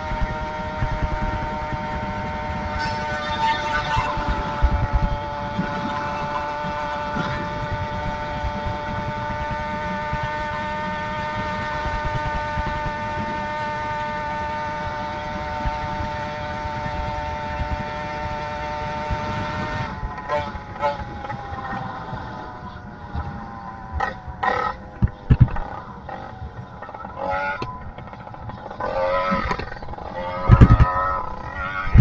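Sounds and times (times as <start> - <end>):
small two-stroke engine running: 0.0 - 32.0
wind rumble on microphone: 0.0 - 32.0.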